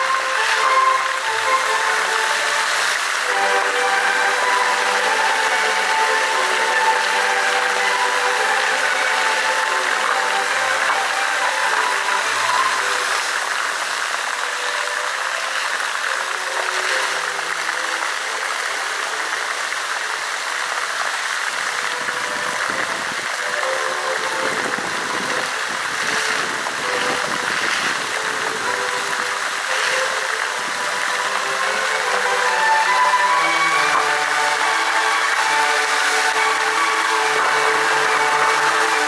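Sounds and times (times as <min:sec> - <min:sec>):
fountain water splashing: 0:00.0 - 0:39.0.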